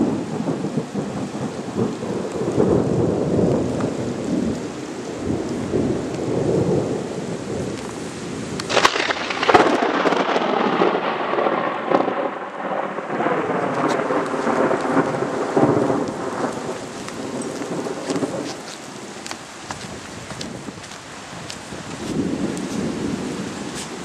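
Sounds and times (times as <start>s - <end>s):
thunder crack and rumble: 0.0s - 18.8s, 21.9s - 24.0s.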